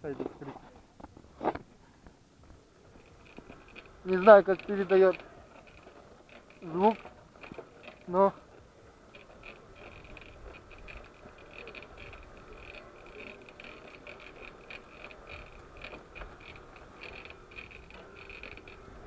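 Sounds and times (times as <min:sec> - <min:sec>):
wheel squeaking: 0:02.7 - 0:19.0.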